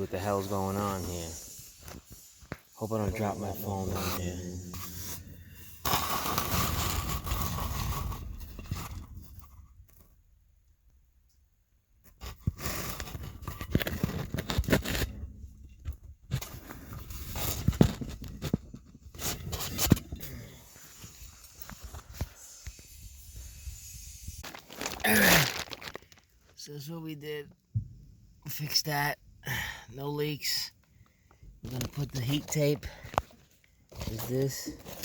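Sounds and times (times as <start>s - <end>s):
close rustling and scraping: 0.0s - 10.1s, 12.1s - 26.5s, 31.5s - 35.0s.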